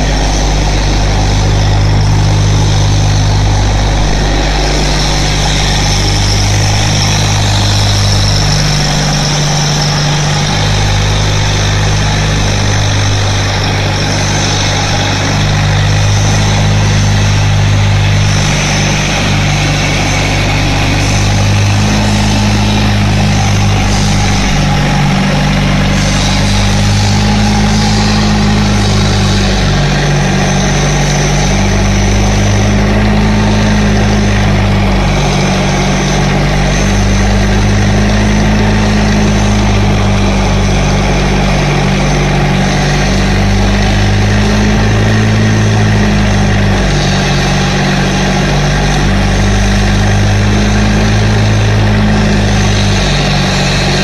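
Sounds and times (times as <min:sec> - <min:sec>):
generator engine running: 0:00.0 - 0:54.0.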